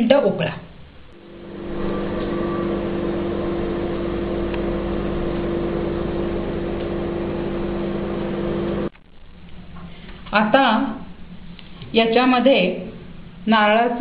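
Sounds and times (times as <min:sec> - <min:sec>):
microwave oven humming: 0:00.7 - 0:14.0.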